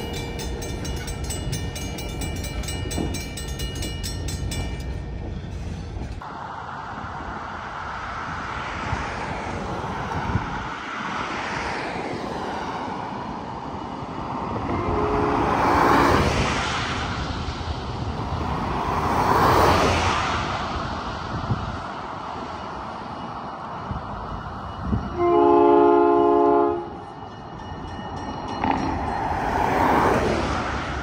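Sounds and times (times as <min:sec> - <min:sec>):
vehicles passing at speed: 0:00.0 - 0:31.0.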